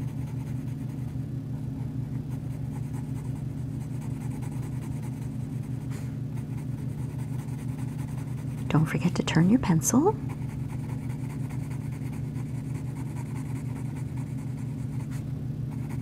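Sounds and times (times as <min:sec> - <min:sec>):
steady low hum: 0:00.0 - 0:16.0
colored pencil scratching on paper: 0:02.1 - 0:16.0.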